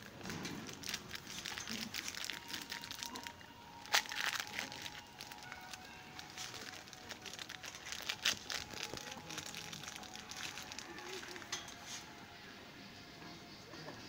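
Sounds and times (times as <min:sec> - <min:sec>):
plastic packaging crinkling: 0:00.0 - 0:12.1
sharp plastic crackles: 0:00.0 - 0:12.1
faint voices: 0:00.0 - 0:14.0.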